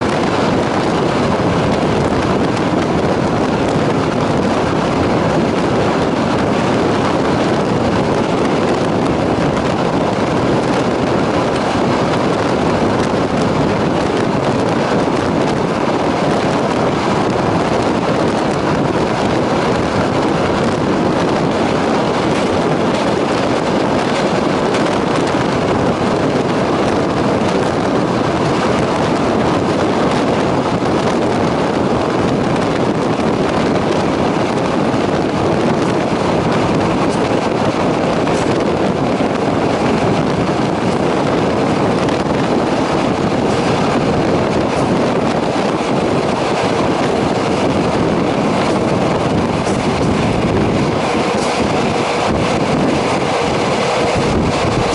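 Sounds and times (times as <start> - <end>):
rushing air: 0.0 - 54.9
train wheels rumbling on rails: 0.0 - 54.9
wind on microphone: 0.0 - 54.9.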